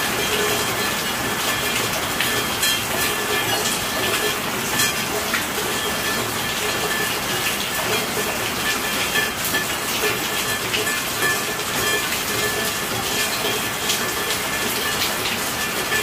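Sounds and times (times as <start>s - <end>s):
steady rainfall hiss: 0.0s - 16.0s.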